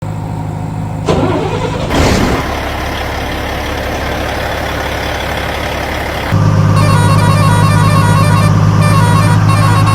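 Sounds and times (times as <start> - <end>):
truck engine idling and surging: 0.0 - 9.9.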